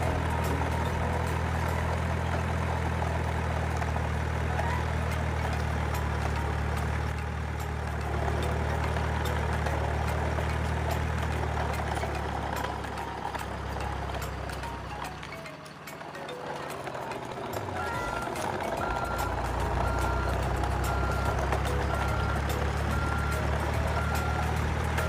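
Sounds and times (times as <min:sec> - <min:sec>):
heavy engine idling: 0:00.0 - 0:25.0.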